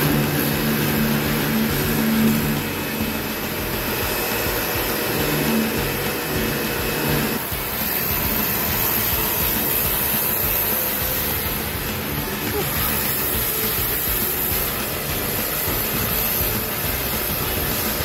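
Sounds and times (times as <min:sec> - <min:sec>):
pressure washer motor hum: 0:00.0 - 0:18.0
pressure washer spray hissing: 0:00.0 - 0:18.0.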